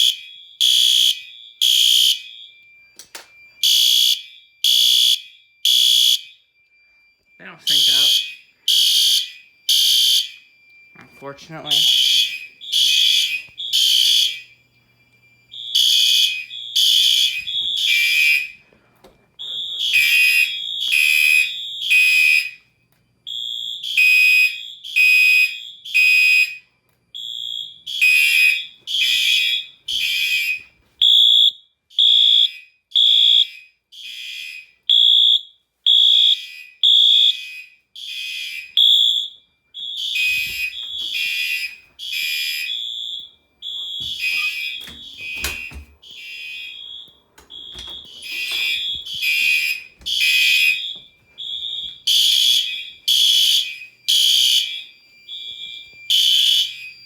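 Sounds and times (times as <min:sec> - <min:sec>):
fire alarm horns blasting: 0:00.0 - 0:57.0.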